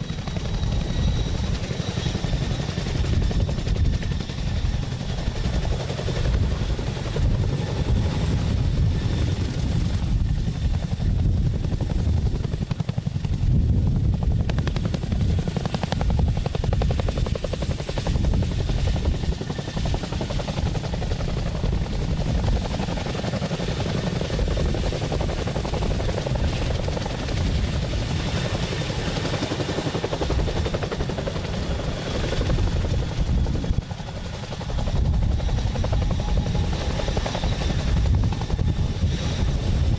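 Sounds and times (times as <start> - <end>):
helicopter rotor blades beating: 0.0 - 39.9.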